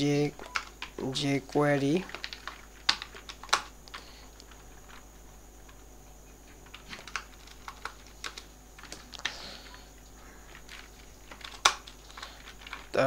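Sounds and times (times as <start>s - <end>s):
keyboard typing: 0.0s - 13.0s.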